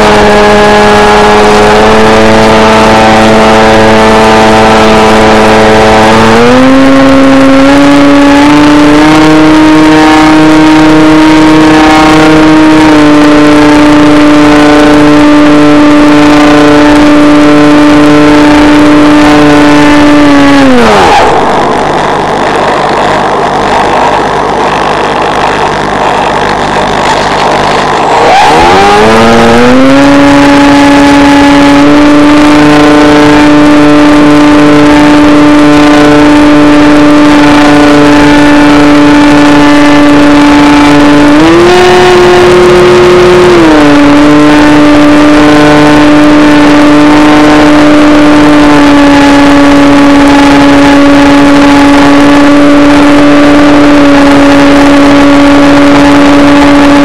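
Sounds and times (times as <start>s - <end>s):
electric motor propeller drone: 0.0s - 57.0s.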